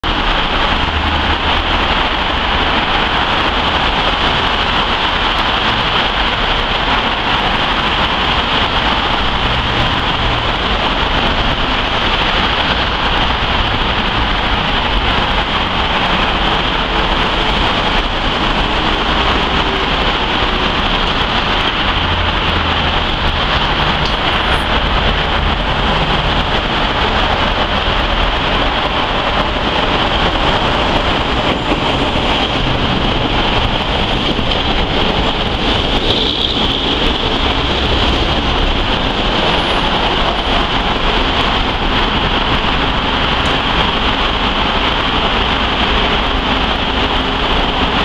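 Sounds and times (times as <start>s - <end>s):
low traffic rumble: 0.0s - 48.0s
tyres hissing on road: 0.0s - 48.0s.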